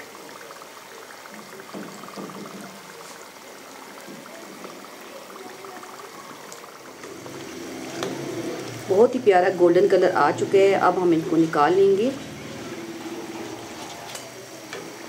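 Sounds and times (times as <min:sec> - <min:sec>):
deep-frying oil sizzling: 0:00.0 - 0:15.0.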